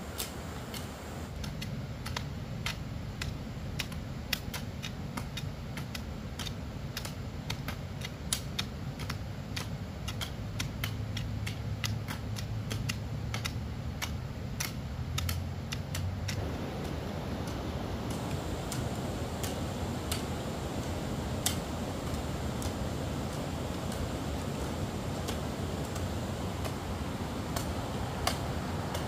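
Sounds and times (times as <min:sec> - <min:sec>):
low steady hum: 0:00.0 - 0:29.0
sharp taps and clicks: 0:00.2 - 0:29.0.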